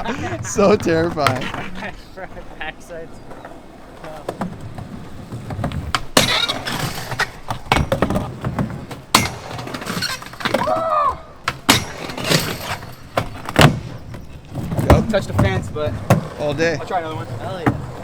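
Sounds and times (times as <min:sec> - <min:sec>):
skateboard clacking and landing: 0:00.0 - 0:02.4, 0:03.2 - 0:18.0
skateboard wheels rolling on concrete: 0:00.0 - 0:18.0.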